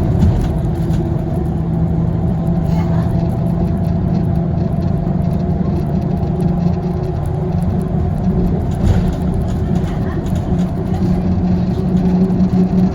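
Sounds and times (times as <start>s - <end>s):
bus engine humming: 0.0s - 12.9s.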